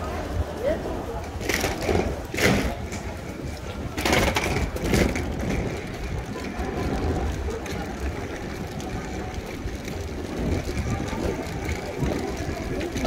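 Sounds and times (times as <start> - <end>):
low rumble of city noise: 0.0 - 13.0.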